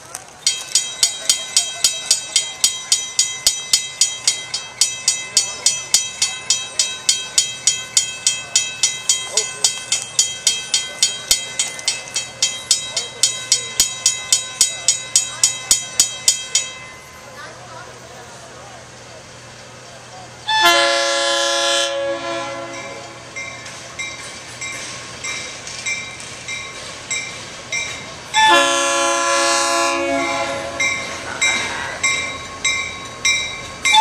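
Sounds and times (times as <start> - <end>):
railroad crossing bell ringing: 0.2 - 18.7, 20.4 - 34.0.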